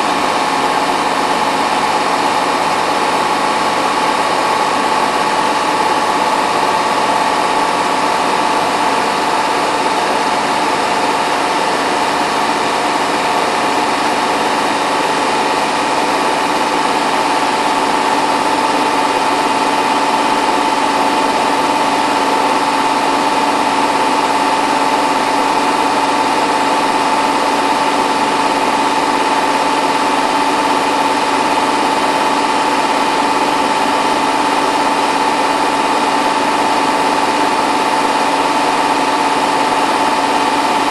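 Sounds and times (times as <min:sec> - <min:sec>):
washing machine fast spin: 0:00.0 - 0:40.9.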